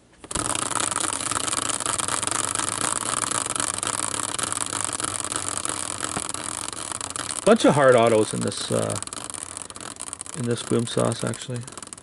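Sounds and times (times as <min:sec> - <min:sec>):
caster wheel whirring: 0:00.2 - 0:12.0.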